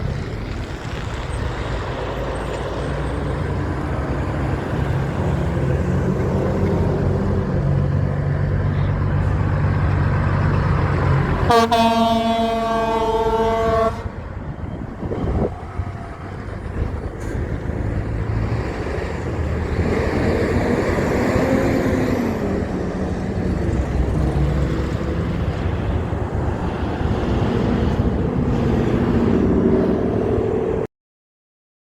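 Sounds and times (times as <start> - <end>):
road traffic: 0.0 - 30.9
truck engine passing: 0.0 - 30.9.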